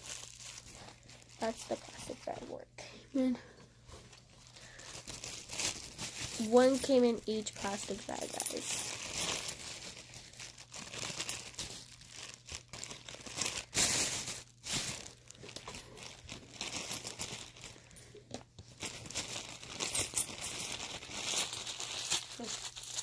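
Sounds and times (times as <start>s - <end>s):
plastic bags crinkling: 0.0s - 2.6s, 4.0s - 23.0s.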